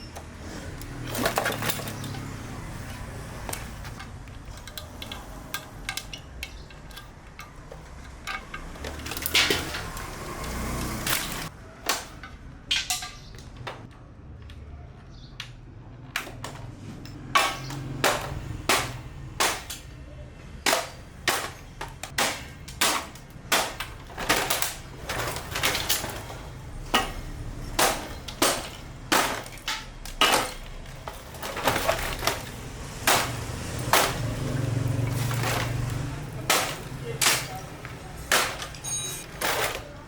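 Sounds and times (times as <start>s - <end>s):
hand tools knocking television casing: 0.0s - 13.9s, 16.2s - 40.0s.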